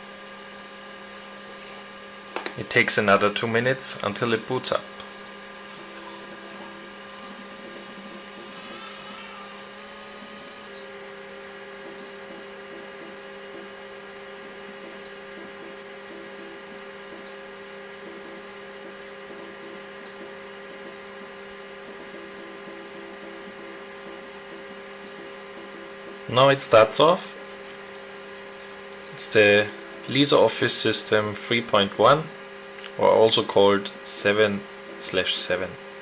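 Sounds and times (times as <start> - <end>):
computer and hard disk humming: 0.0 - 36.0.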